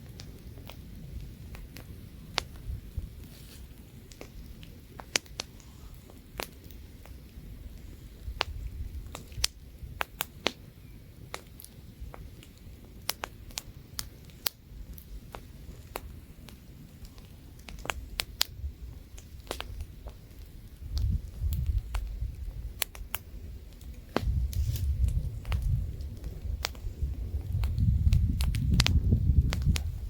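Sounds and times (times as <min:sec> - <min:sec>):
campfire crackling and popping: 0:00.0 - 0:30.0
light wind: 0:00.0 - 0:30.0.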